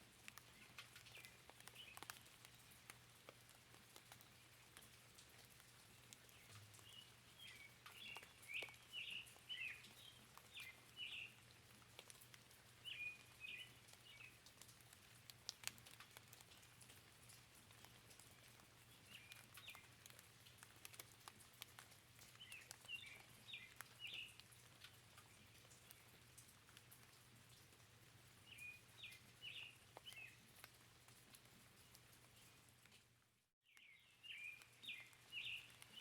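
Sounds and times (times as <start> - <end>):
songbirds chirping: 0.0 - 32.7, 33.6 - 36.0
raindrops tapping and dripping: 0.0 - 36.0.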